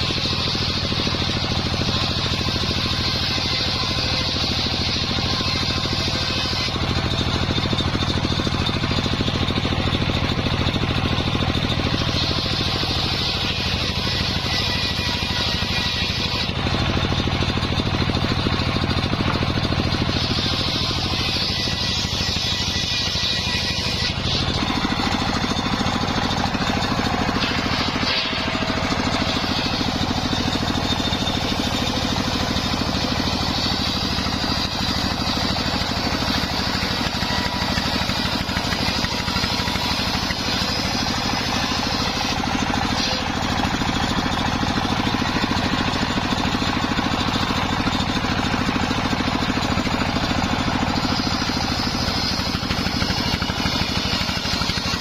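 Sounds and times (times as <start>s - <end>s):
circular saw sawing timber: 0.0s - 55.0s
high saw whine: 0.0s - 55.0s.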